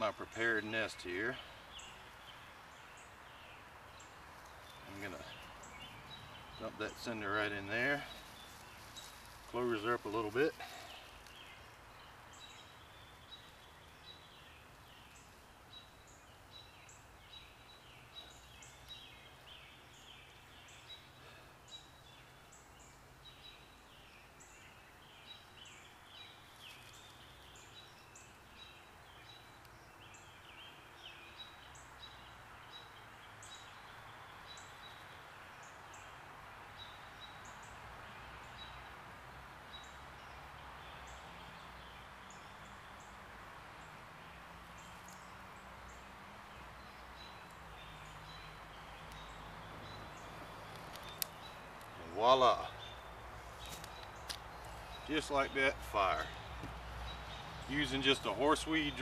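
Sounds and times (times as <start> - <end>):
soft hiss: 0.0 - 59.0.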